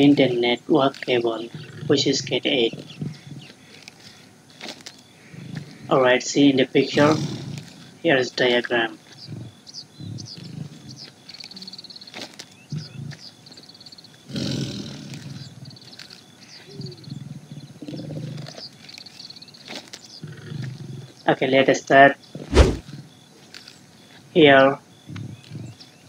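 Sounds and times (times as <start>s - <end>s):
tiger growling and roaring: 0.0s - 21.3s, 22.2s - 24.3s, 24.9s - 26.0s.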